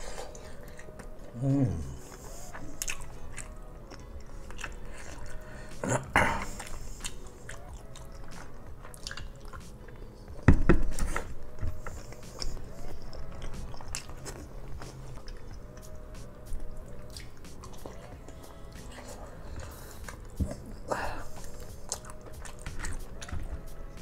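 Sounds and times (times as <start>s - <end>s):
chewing and biting: 2.0s - 24.0s.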